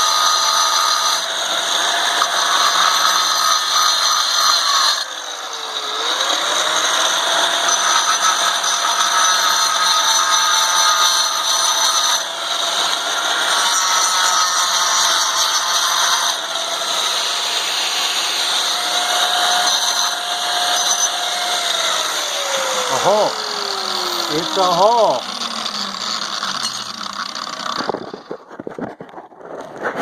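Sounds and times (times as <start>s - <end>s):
angle grinder cutting tile: 0.0s - 29.2s.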